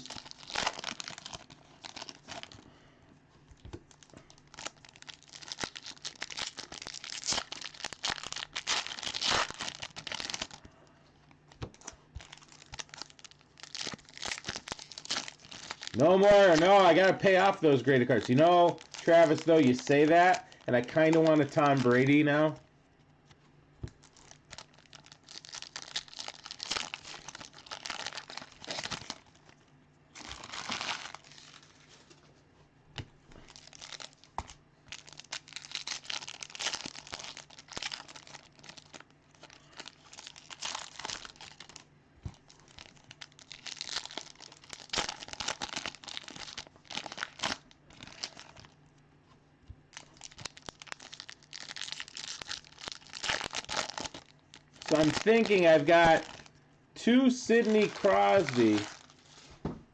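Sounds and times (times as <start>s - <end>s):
card pack wrappers crinkling: 0.0s - 2.6s, 3.5s - 10.7s, 11.4s - 22.5s, 23.8s - 29.6s, 30.2s - 32.2s, 33.4s - 48.8s, 49.9s - 59.5s.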